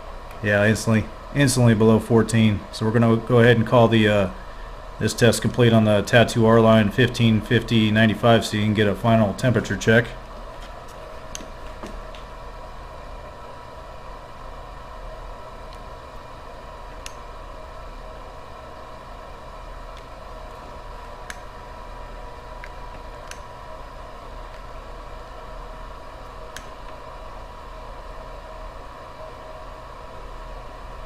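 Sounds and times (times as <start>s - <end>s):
electrical hum and hiss: 0.0s - 31.0s.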